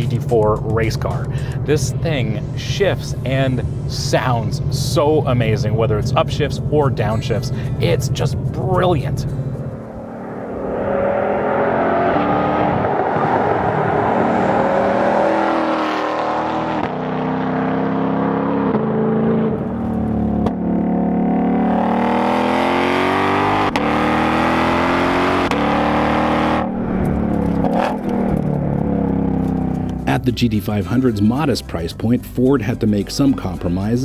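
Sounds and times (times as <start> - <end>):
car engine accelerating hard: 0.0 - 30.2.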